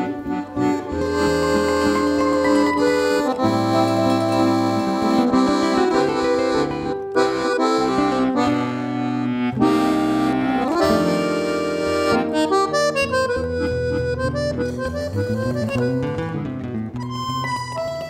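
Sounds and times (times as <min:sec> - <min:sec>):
accordion playing melody and chords: 0:00.0 - 0:18.0.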